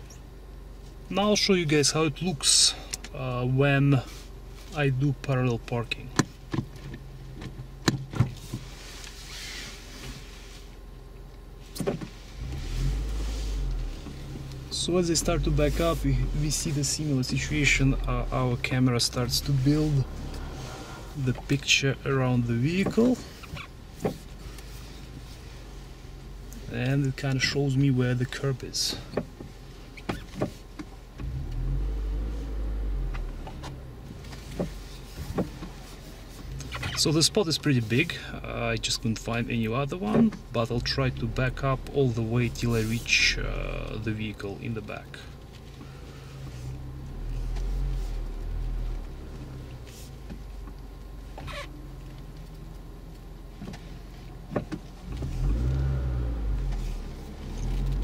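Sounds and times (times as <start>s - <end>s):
car engine rumble: 0.0s - 58.0s
low steady hum: 0.0s - 58.0s
soft hiss: 8.3s - 58.0s.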